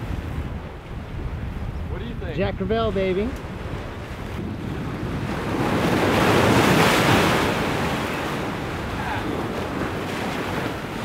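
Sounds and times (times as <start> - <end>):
surf washing over rocks: 1.1 - 11.0.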